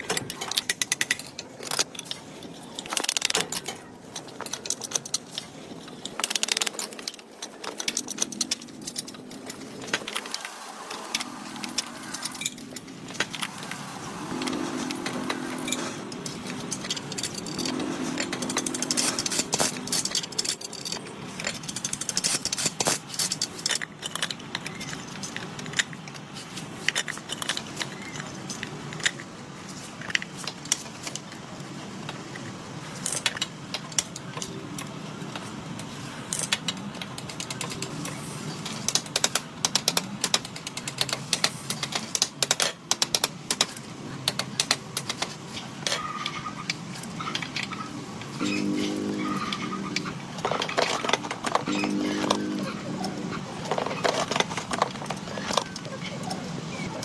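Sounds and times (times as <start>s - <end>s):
metallic clicking and clinking: 0.0s - 57.0s.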